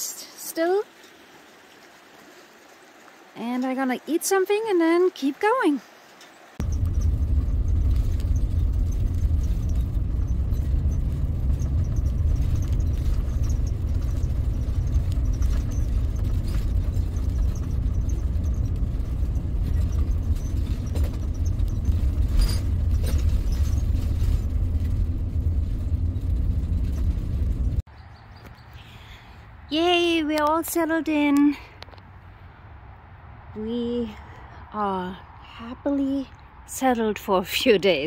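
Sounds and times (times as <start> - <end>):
vehicle engine and tyre rumble: 0.0 - 38.0.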